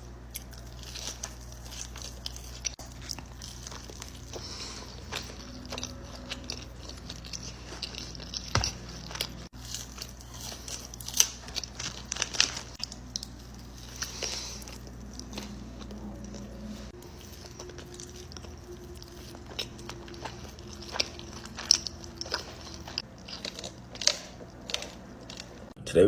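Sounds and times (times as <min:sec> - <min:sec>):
person chewing crunchy food: 0:00.0 - 0:25.8.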